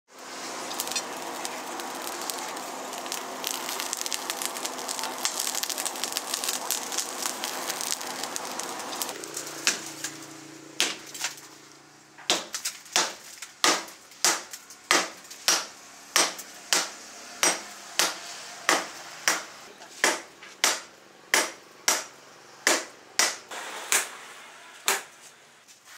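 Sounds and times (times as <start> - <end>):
forge fire crackling: 0.1 - 23.8.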